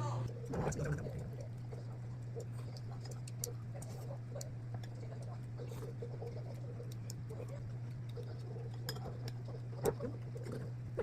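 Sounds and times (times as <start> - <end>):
steady low hum: 0.0 - 11.0
faint clicks and ticks: 0.2 - 11.0.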